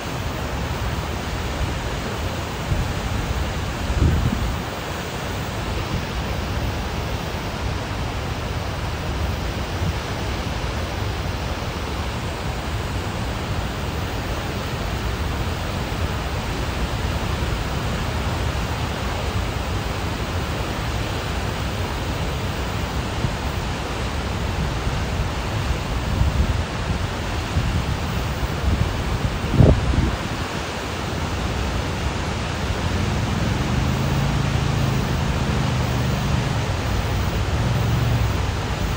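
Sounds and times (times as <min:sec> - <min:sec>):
floodwater rushing: 0:00.0 - 0:38.9.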